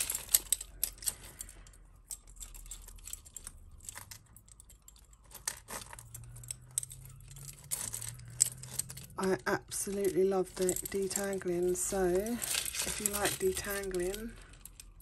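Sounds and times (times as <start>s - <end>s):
jewellery clinking and jangling: 0.0s - 15.0s.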